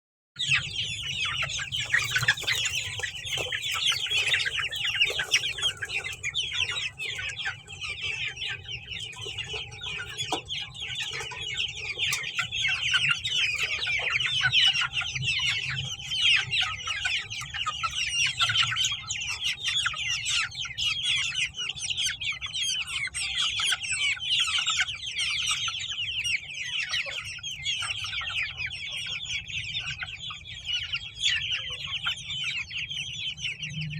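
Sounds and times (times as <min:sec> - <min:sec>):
chickens clucking and peeping: 0:00.4 - 0:33.9.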